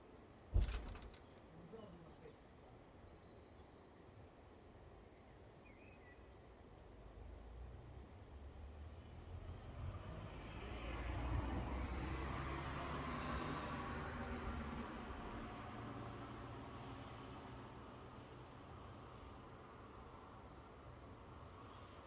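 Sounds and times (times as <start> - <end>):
crickets chirping: 0.1 - 9.8, 11.6 - 22.0.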